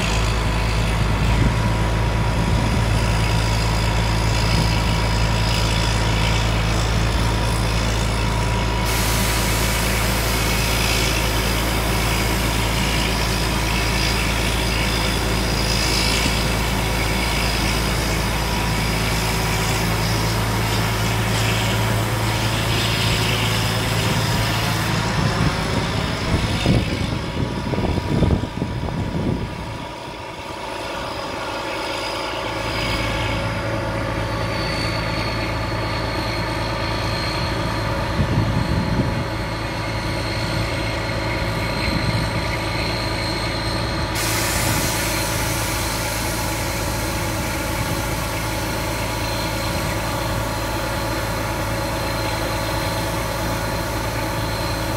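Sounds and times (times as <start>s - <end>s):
diesel engine running: 0.0s - 54.9s
thin high whine: 5.4s - 54.9s.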